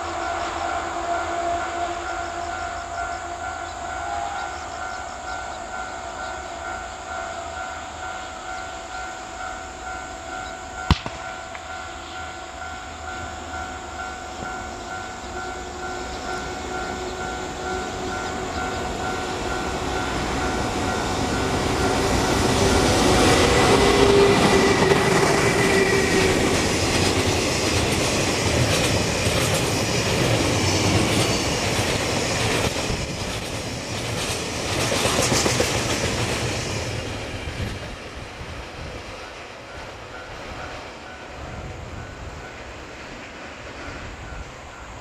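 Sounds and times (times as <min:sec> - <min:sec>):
locomotive whine: 0:00.0 - 0:45.0.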